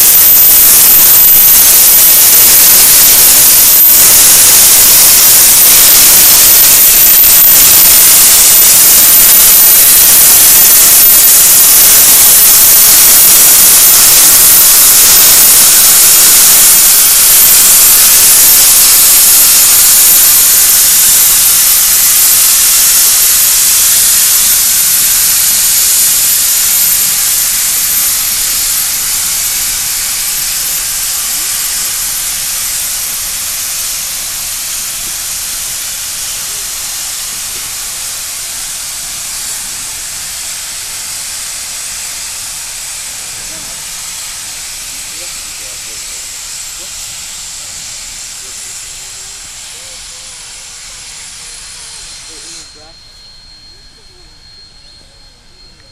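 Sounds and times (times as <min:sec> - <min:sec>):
steam locomotive hissing: 0:00.0 - 0:55.9.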